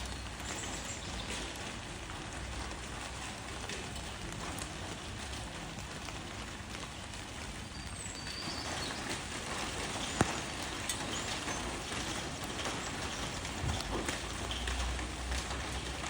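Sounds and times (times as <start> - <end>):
rain falling on leaves: 0.0 - 16.0
sharp raindrop tap: 0.0 - 16.0.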